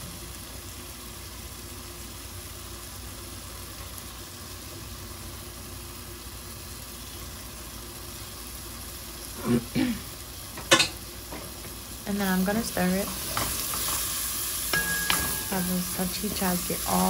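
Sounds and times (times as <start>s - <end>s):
seasonings sizzling in a hot pot: 0.0s - 17.0s.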